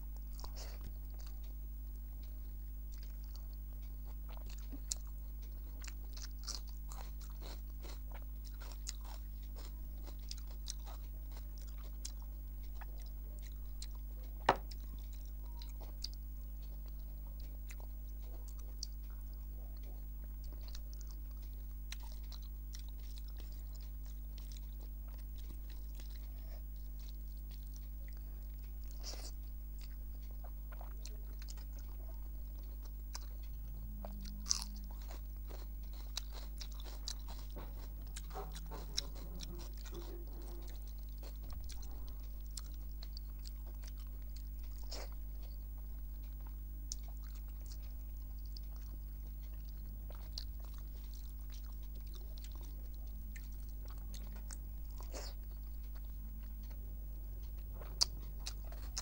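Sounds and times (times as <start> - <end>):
low electrical hum: 0.0 - 59.0
person chewing with wet clicks: 0.0 - 59.0.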